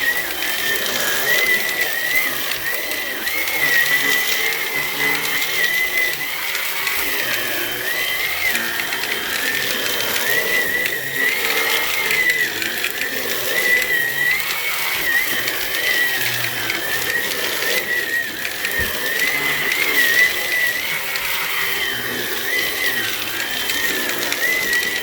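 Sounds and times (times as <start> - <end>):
stick vacuum motor whine: 0.0 - 25.0.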